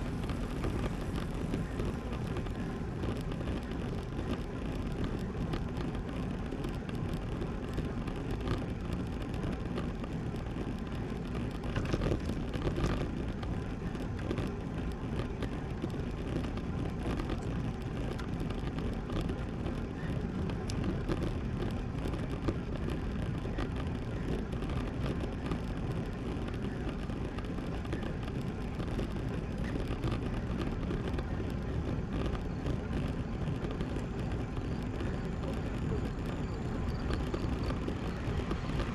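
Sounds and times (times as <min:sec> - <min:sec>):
bicycle tyre noise: 0:00.0 - 0:38.9
wind rushing over microphone: 0:00.0 - 0:38.9.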